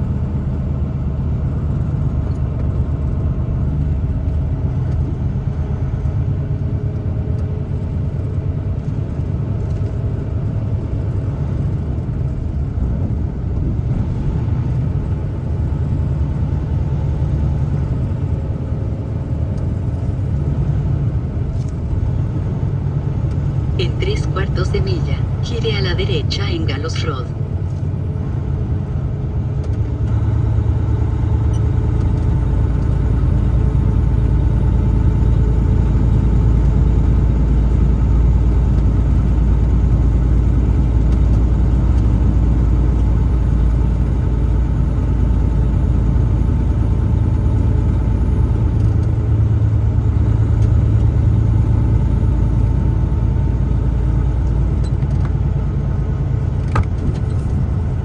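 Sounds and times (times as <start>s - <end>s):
truck engine and tyres rumbling: 0.0s - 58.0s.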